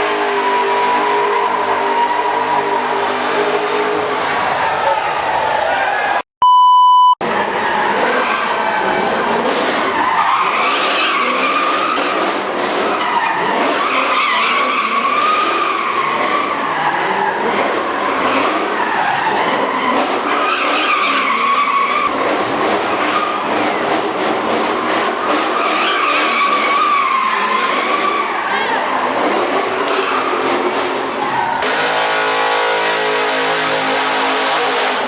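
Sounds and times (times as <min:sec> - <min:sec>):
car tyres squealing: 0:00.0 - 0:06.2, 0:07.2 - 0:35.0.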